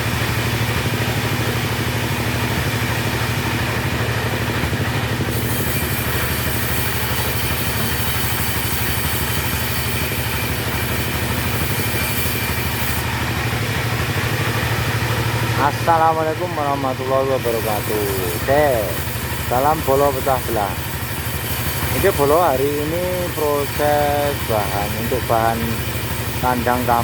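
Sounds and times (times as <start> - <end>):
chainsaw engine idling: 0.0 - 27.0.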